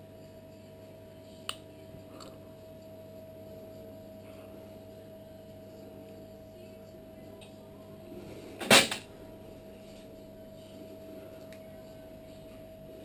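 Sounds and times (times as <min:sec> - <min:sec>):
dental equipment hum: 0:00.0 - 0:13.0.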